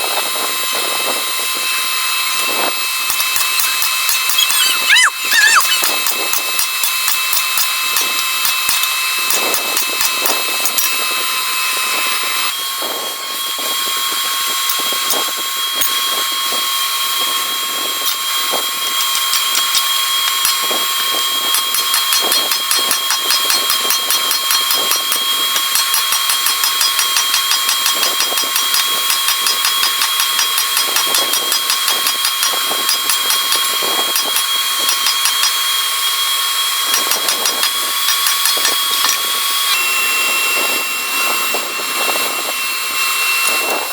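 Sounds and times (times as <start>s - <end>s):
power grinder grinding steel: 0.0s - 43.9s.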